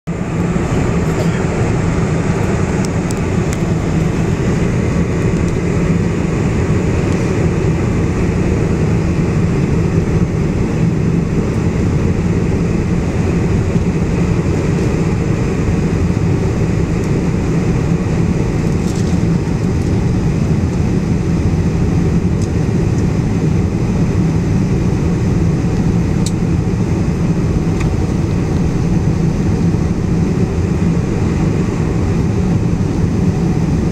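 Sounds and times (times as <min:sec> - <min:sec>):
jet engine and airflow drone: 0:00.0 - 0:33.9.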